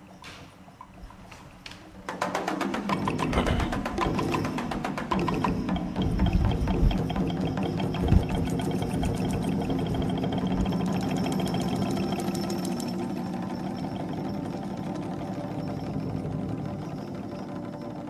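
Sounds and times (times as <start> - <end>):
droning music with ticking pulse: 0.0 - 18.0.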